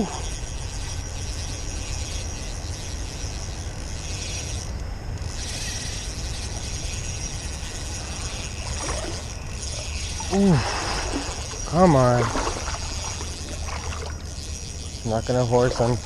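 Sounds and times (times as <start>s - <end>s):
fishing reel winding: 0.0s - 16.0s.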